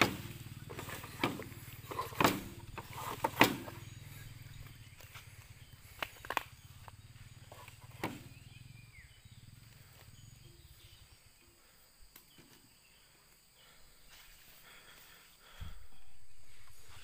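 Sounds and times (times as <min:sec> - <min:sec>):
faint chirp: 0:00.0 - 0:17.0.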